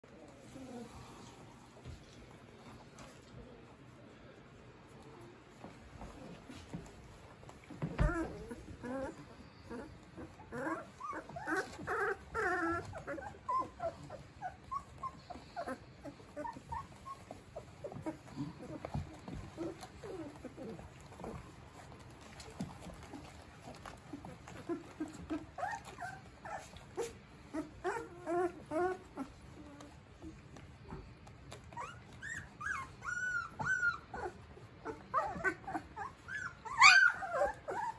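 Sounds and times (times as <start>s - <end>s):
puppies whimpering and squeaking: 6.0s - 37.9s.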